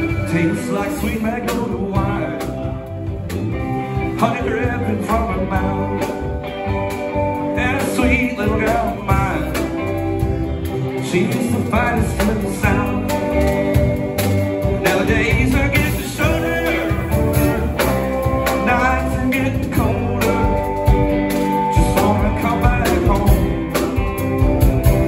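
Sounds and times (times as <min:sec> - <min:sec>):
drum kit with cymbals: 0:00.0 - 0:25.0
electric guitars: 0:00.0 - 0:25.0.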